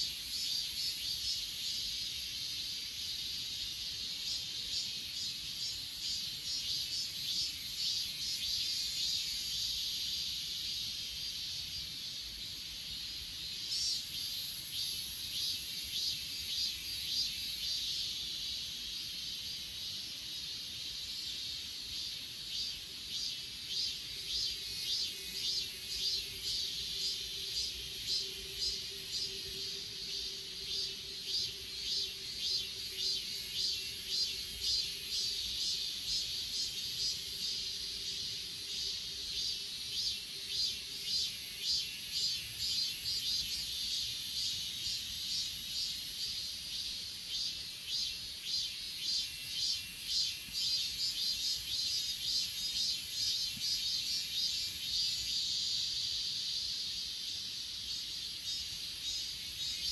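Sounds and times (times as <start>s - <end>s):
crickets trilling: 0.0s - 59.9s
insect pulsing chirp: 0.0s - 59.9s.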